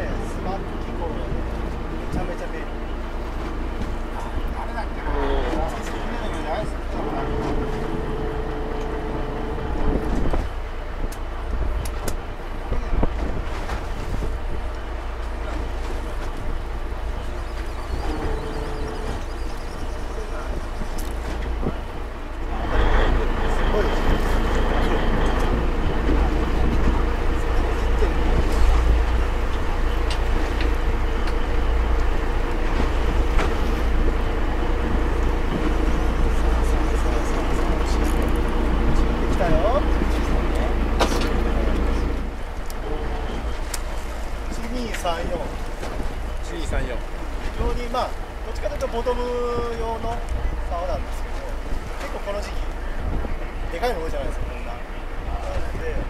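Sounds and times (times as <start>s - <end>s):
boat engine running: 0.0s - 56.0s
sea noise: 0.0s - 56.0s
wind: 0.0s - 56.0s.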